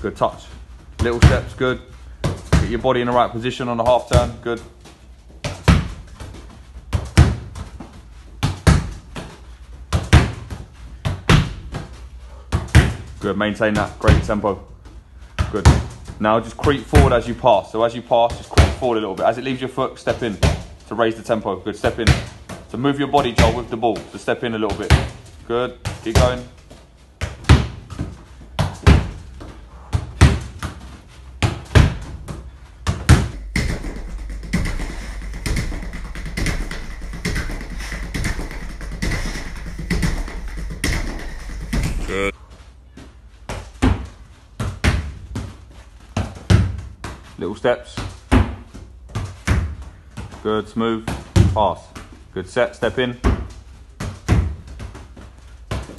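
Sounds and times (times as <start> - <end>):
football thuds in wooden room: 0.1 - 42.3, 42.9 - 55.9.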